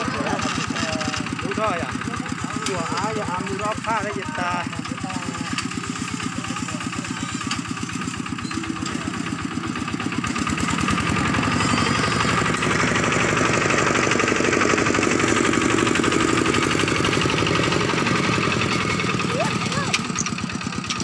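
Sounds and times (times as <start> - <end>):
diesel engine puttering: 0.0 - 21.0.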